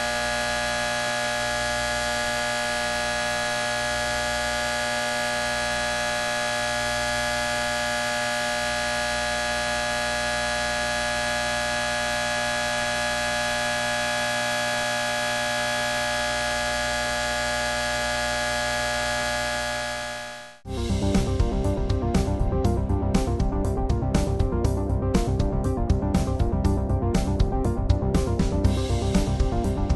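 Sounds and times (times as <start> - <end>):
electrical hum and buzz: 0.0 - 29.9.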